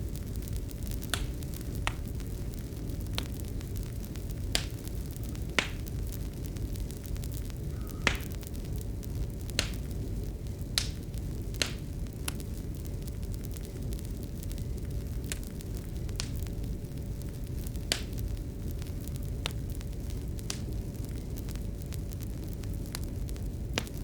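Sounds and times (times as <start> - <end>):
sharp pops of fire: 0.0 - 24.0
wood fire crackling: 0.0 - 24.0.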